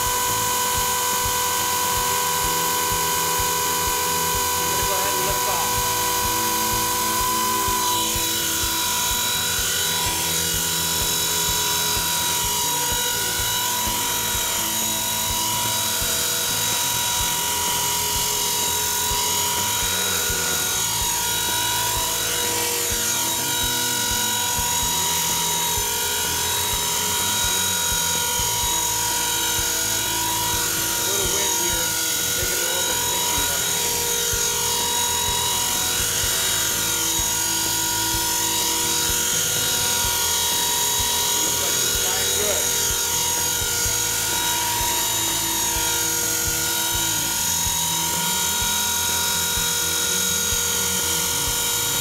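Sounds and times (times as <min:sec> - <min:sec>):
rc helicopter whine: 0:00.0 - 0:52.0.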